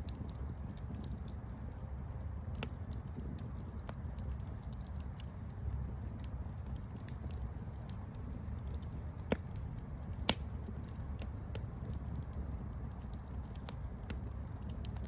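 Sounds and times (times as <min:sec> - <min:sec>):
burning wood pops: 0:00.0 - 0:15.0
campfire burning: 0:00.0 - 0:15.0.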